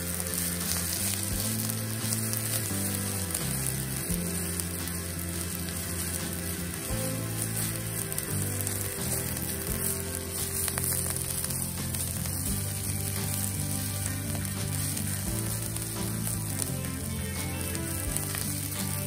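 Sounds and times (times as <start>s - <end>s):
background music with low notes: 0.0s - 19.0s
leaves sizzling in a frying pan: 0.0s - 19.0s.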